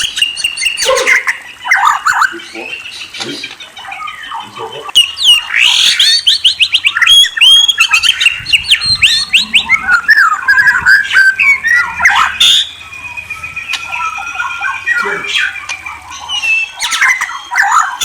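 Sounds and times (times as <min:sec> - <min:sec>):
songbird whistles and trills: 0:00.0 - 0:18.0.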